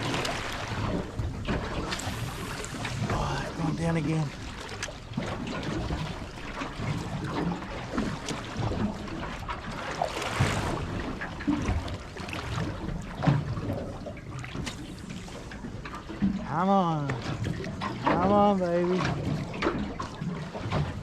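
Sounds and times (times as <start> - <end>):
water lapping against a hull: 0.0 - 21.0.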